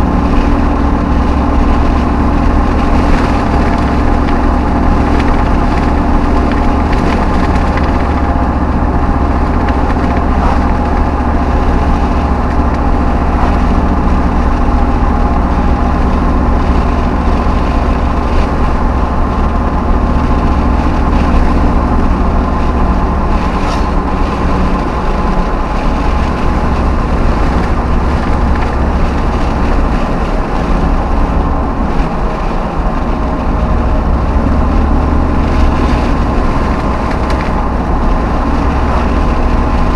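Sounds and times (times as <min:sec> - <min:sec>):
pickup truck engine rumble: 0:00.0 - 0:39.9.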